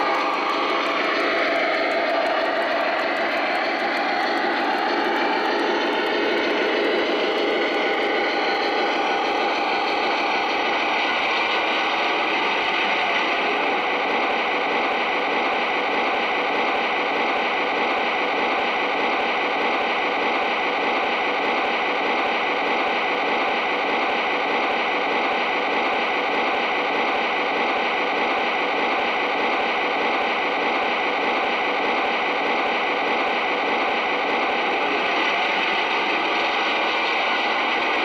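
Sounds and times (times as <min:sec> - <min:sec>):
model train diesel engine sound: 0:00.0 - 0:38.0.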